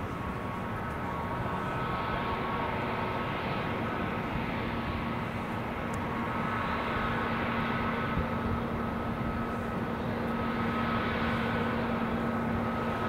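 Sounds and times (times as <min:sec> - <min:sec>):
distant jet engines idling: 0:00.0 - 0:13.0.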